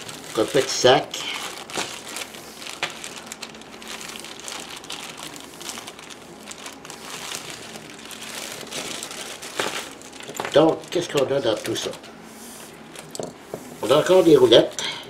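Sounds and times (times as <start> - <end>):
plastic bag crinkling: 0.0 - 14.8.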